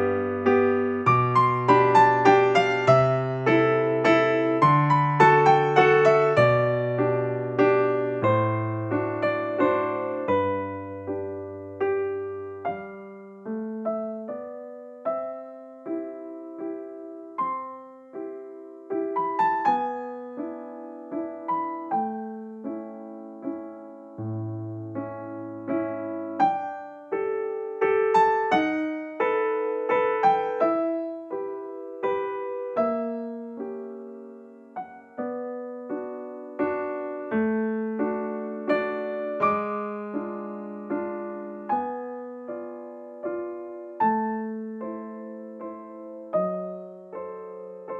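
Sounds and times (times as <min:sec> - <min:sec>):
gentle piano melody: 0:00.0 - 0:47.9.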